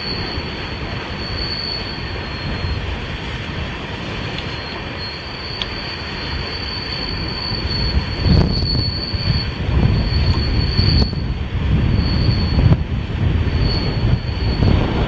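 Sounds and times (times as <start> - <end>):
train wheels flange squeal: 0.0 - 3.0, 4.3 - 12.8, 13.4 - 15.0
rail cars rumbling: 0.0 - 15.0
wind buffeting microphone: 0.0 - 15.0.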